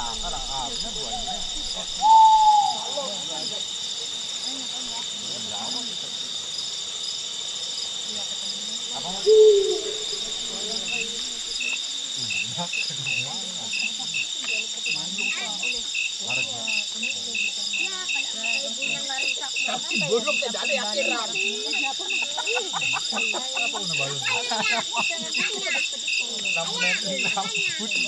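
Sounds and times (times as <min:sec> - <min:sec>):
low murmuring voices: 0:00.0 - 0:06.6, 0:07.9 - 0:28.0
crickets trilling: 0:00.0 - 0:28.0
insect chirping in pulses: 0:00.0 - 0:28.0.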